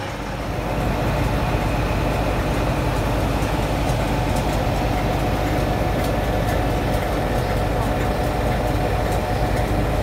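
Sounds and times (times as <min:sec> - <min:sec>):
diesel engine rumble: 0:00.0 - 0:10.0.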